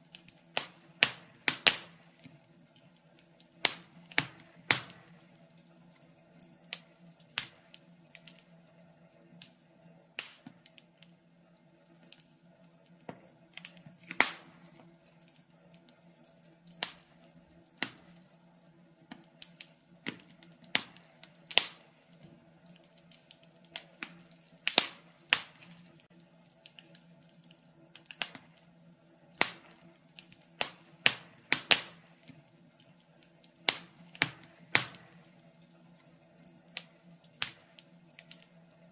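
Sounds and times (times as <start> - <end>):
faint steady hum: 0.0 - 38.9
wood fire crackling and popping: 0.0 - 38.9.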